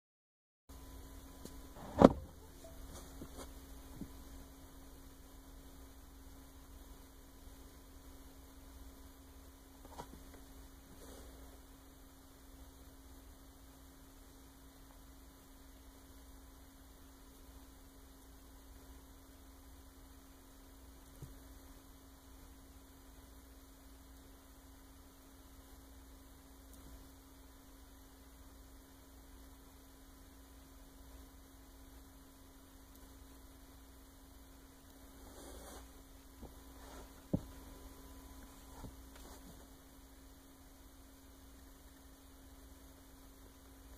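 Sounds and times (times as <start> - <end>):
faint electrical hum: 0.7 - 43.9.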